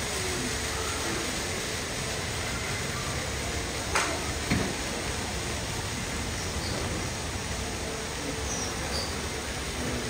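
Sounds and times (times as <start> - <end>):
steady shop ambience hiss: 0.0 - 10.0.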